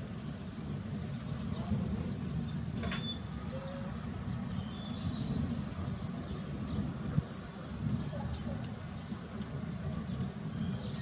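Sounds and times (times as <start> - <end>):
cricket chirping: 0.2 - 11.0.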